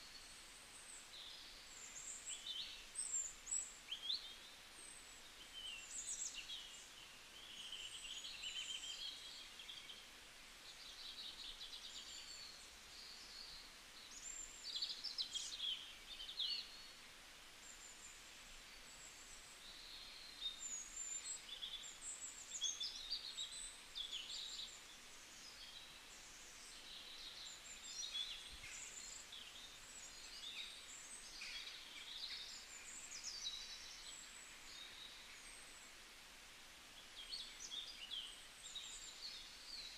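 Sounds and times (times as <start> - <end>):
small birds chirping: 0.0 - 36.2, 36.8 - 39.9
faint steady background hiss: 0.0 - 39.9.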